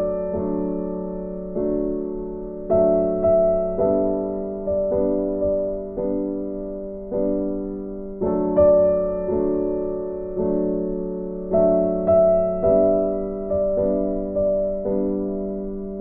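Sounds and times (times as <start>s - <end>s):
slow gentle solo piano: 0.0s - 16.0s.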